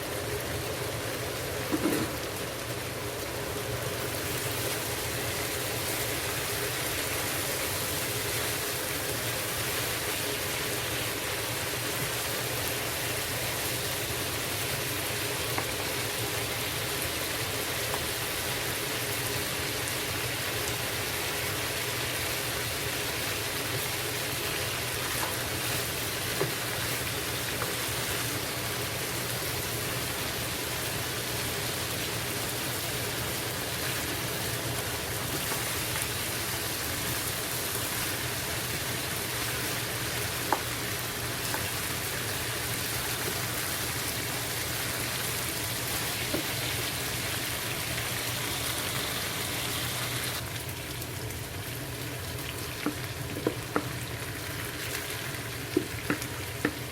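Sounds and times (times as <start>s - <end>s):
chicken sizzling in oil: 0.0s - 56.9s.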